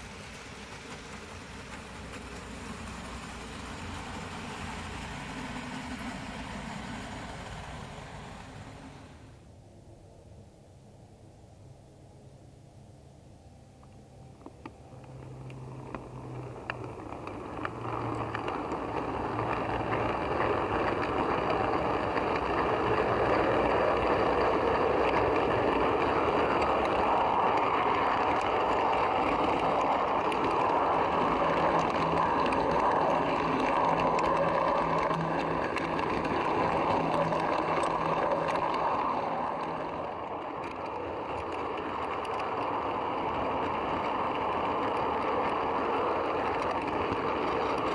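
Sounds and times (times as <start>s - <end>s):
model train wheels rumbling: 0.0s - 9.4s, 14.9s - 47.9s.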